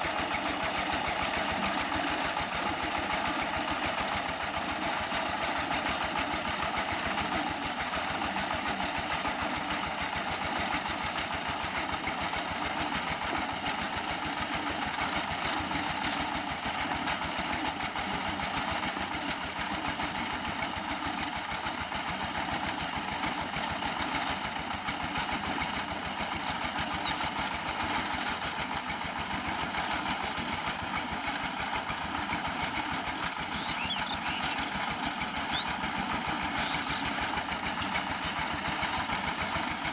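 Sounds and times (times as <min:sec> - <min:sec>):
single-cylinder engine chugging: 0:00.0 - 0:39.9.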